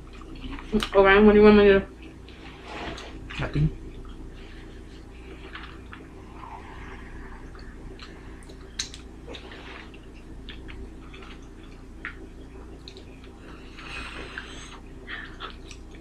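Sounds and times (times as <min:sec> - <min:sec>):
people chewing food: 0:00.0 - 0:16.0
steady low hum: 0:00.0 - 0:16.0.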